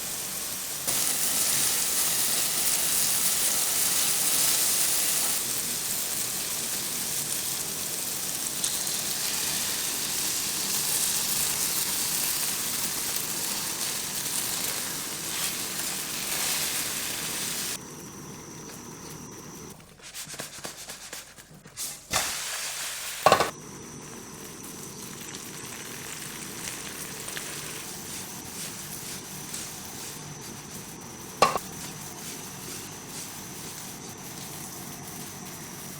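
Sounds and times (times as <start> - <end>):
food sizzling in a frying pan: 0.0 - 17.8, 22.1 - 35.6.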